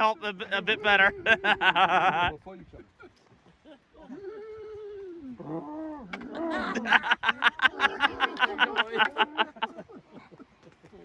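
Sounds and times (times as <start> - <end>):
man laughing: 0.0 - 4.8, 6.4 - 11.0.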